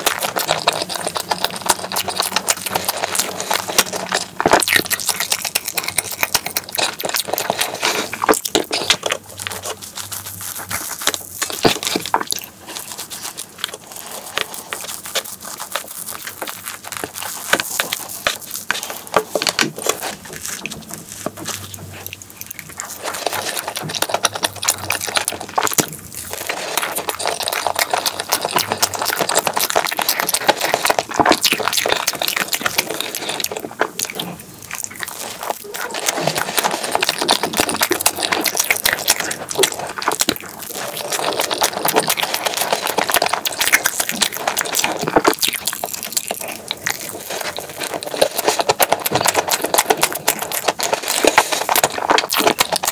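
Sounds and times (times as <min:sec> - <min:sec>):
wet chewing and lip smacks: 0:00.0 - 0:52.9.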